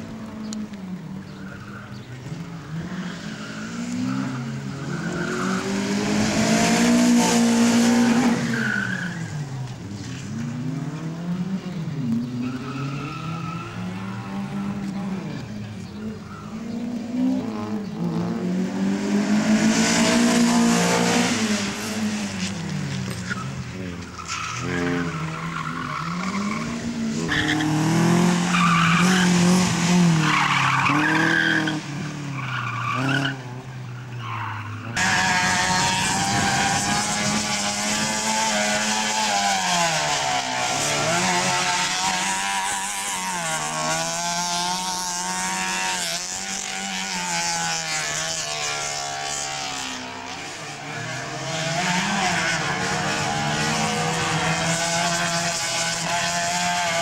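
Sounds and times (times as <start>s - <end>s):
car engine revving: 2.2s - 9.0s, 10.0s - 57.0s.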